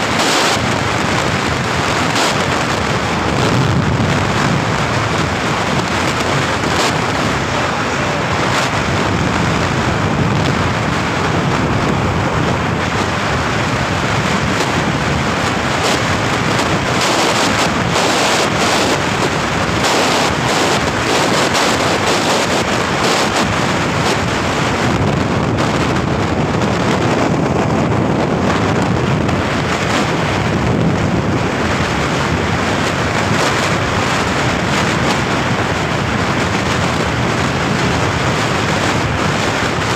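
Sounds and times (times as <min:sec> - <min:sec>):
rushing wind and road noise: 0:00.0 - 0:39.9
wind buffeting microphone: 0:00.0 - 0:39.9.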